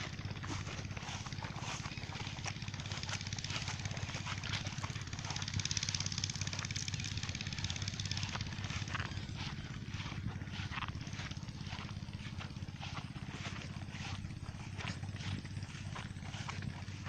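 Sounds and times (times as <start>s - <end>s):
diesel pump engine knocking: 0.0s - 17.0s.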